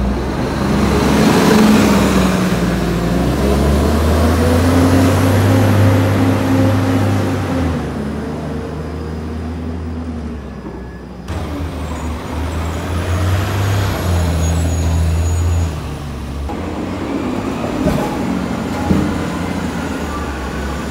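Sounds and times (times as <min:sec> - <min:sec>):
bus engines driving past: 0:00.0 - 0:20.9.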